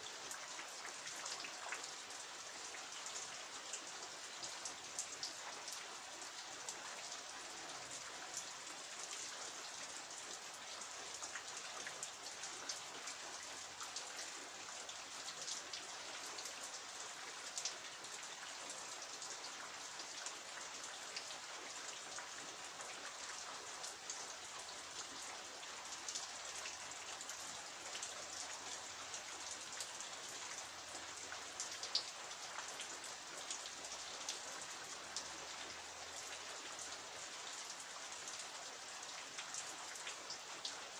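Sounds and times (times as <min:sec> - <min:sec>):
raindrops ticking on surfaces: 0:00.0 - 0:40.9.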